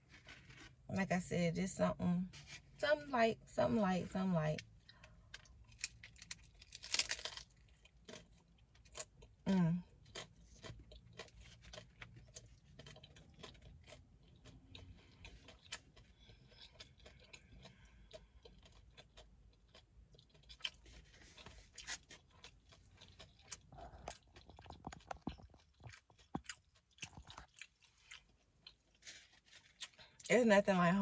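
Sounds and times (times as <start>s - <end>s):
chewing food with crunches: 4.6s - 30.3s.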